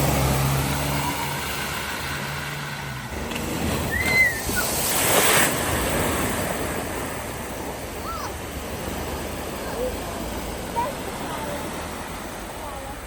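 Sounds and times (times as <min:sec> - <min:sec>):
car engine hum: 0:00.0 - 0:13.0
splashing: 0:00.0 - 0:13.0
water rushing: 0:00.0 - 0:13.0.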